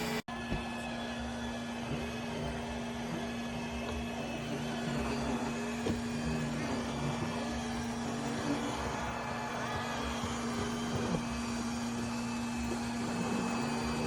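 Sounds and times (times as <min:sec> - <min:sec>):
robot vacuum motor hum: 0:00.0 - 0:14.0.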